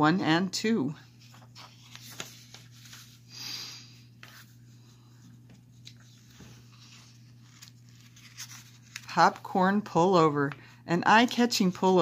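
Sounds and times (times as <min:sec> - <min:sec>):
low steady hum: 0:00.0 - 0:12.0
magazine pages rustling: 0:01.1 - 0:03.3, 0:04.0 - 0:12.0.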